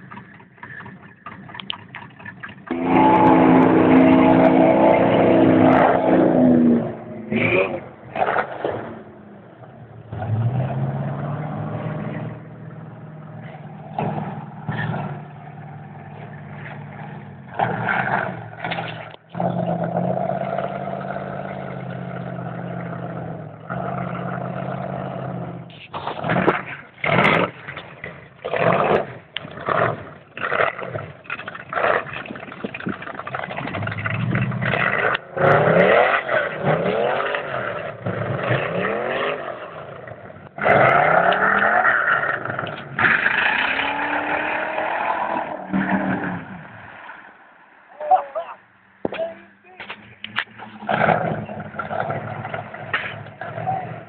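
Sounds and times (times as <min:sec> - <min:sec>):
truck engine revving: 0:00.0 - 0:47.5, 0:49.9 - 0:54.0.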